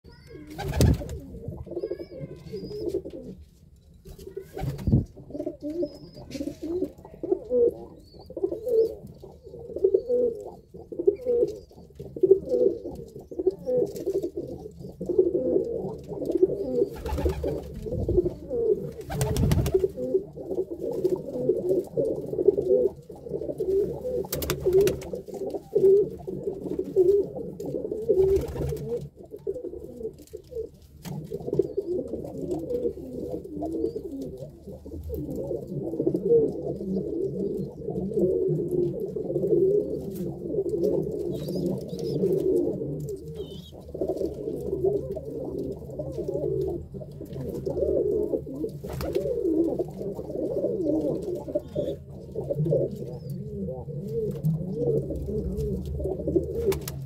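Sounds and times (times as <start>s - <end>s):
pigeons cooing: 0.1s - 3.5s, 4.1s - 57.0s.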